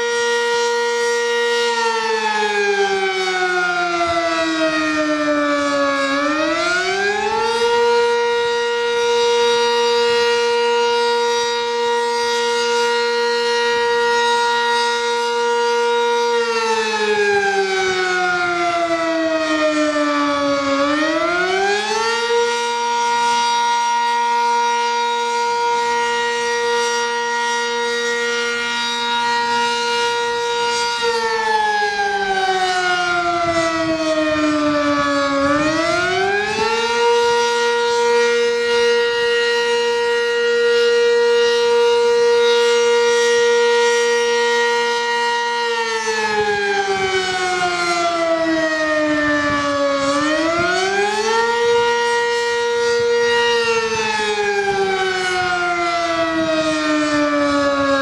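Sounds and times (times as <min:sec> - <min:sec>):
outdoor warning siren: 0:00.0 - 0:58.0.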